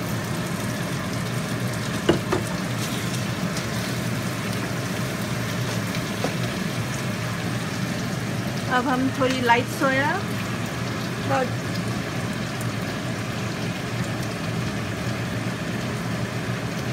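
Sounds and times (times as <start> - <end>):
chicken sizzling in a wok: 0.0 - 16.9.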